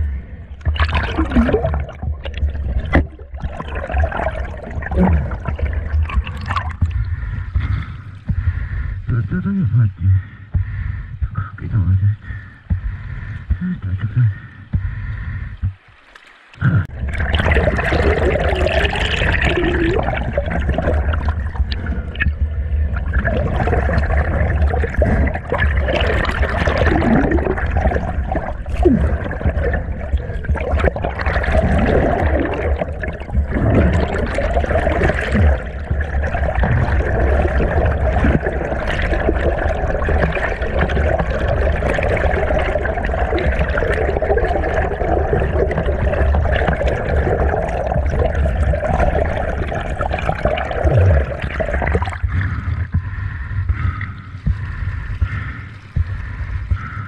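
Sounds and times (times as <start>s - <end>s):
bubbling gurgles: 0.0s - 9.6s, 11.3s - 57.0s
muffled underwater stream rushing: 0.0s - 57.0s.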